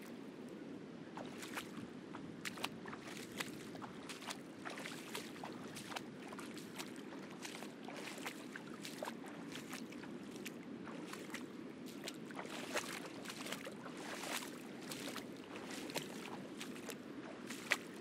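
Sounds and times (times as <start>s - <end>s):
footsteps splashing through shallow water: 0.0s - 18.0s.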